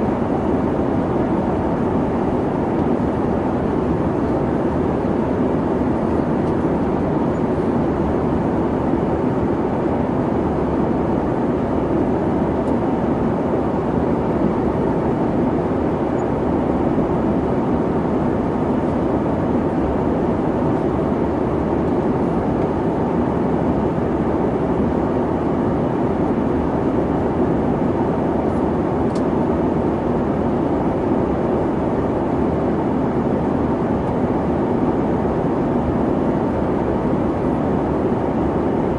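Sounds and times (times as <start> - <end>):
jet engine and airflow roar: 0.0 - 38.9.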